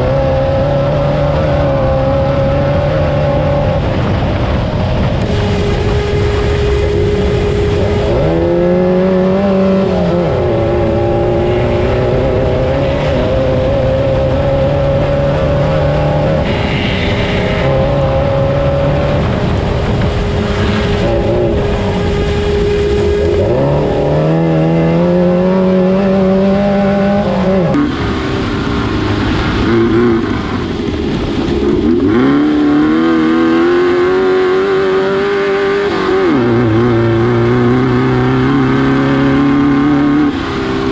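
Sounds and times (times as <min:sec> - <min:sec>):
race car engine revving: 0:00.0 - 0:40.9
steady whine: 0:00.0 - 0:40.9.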